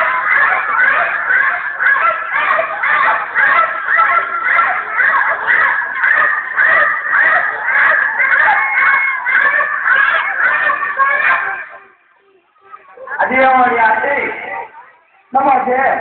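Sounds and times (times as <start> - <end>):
children shouting and shrieking: 0.0 - 16.0.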